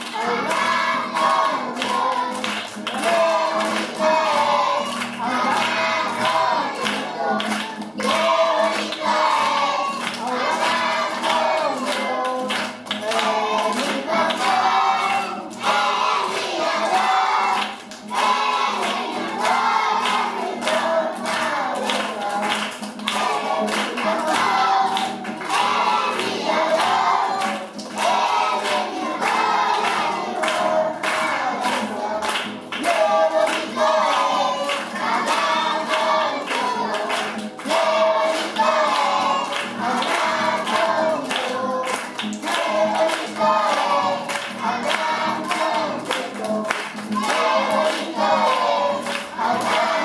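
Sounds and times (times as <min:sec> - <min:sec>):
children singing: 0:00.0 - 0:50.0
hands clapping: 0:00.0 - 0:50.0
strummed acoustic guitar: 0:00.0 - 0:50.0.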